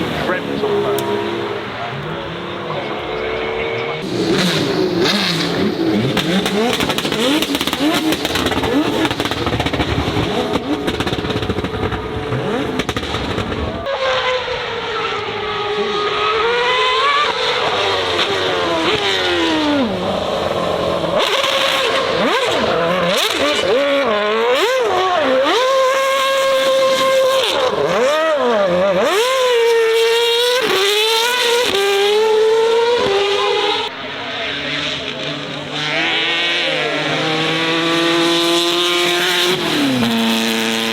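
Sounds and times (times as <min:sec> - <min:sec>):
car engine revving hard: 0:00.0 - 0:40.9.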